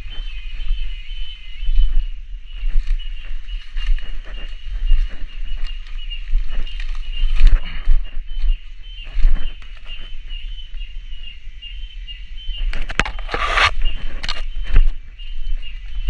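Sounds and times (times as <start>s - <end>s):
twigs crackling: 0.0s - 11.3s, 12.6s - 16.0s
footsteps in forest undergrowth: 0.0s - 16.0s
high-pitched cicada drone: 0.0s - 16.0s
rustle of leaves and branches: 0.0s - 16.0s.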